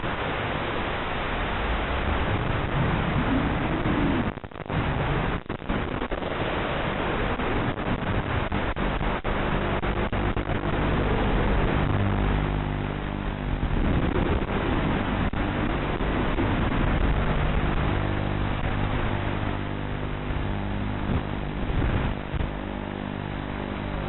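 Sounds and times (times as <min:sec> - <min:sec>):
drone motors humming: 0:00.0 - 0:06.3, 0:06.9 - 0:24.0
drone video link hissing rush: 0:00.0 - 0:24.0.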